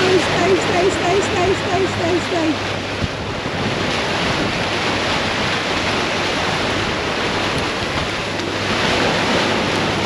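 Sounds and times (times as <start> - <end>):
churning wake water: 0.0 - 10.0.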